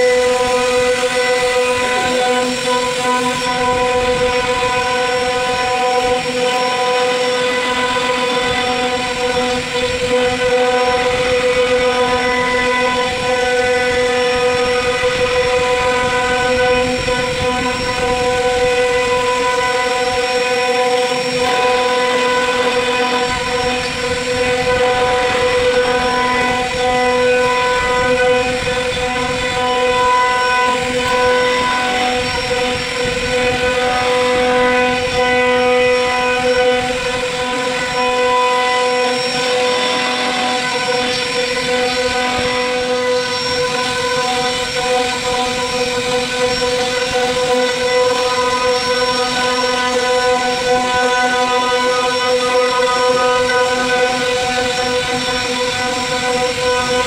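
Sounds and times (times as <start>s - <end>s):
router bit cutting wood: 0.0s - 57.0s
router spindle high whine: 0.0s - 57.0s.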